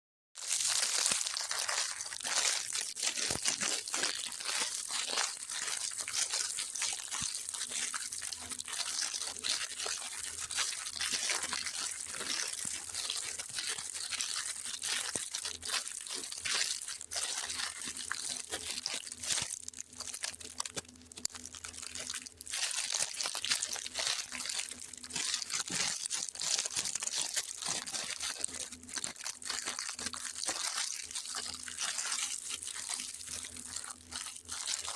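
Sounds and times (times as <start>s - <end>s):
packaging crinkling: 0.4s - 34.9s
packaging tearing: 0.4s - 34.9s.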